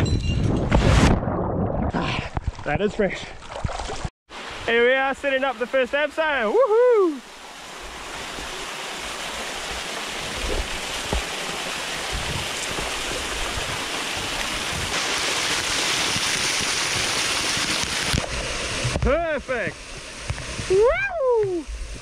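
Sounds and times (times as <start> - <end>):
rushing water: 1.9 - 22.0.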